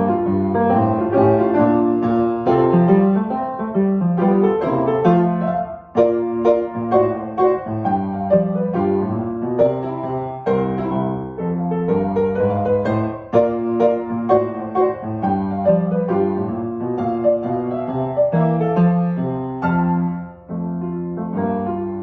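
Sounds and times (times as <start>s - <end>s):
solo piano melody: 0.0s - 22.0s.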